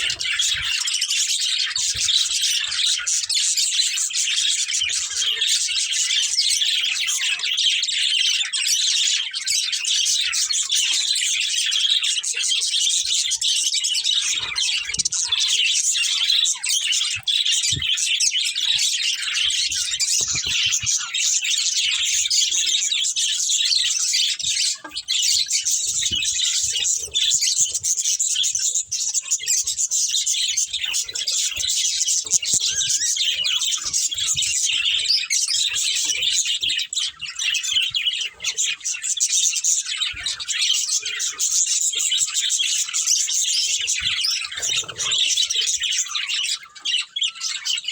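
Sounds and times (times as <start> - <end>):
budgerigars chirping: 0.0 - 47.9.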